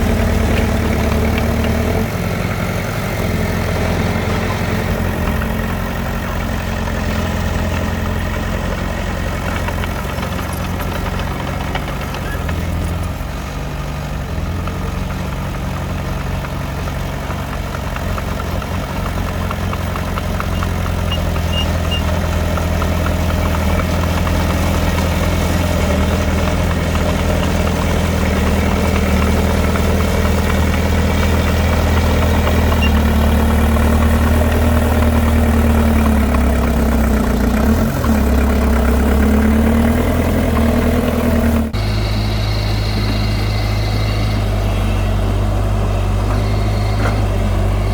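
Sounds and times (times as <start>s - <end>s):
heavy machinery diesel engine: 0.0s - 47.9s.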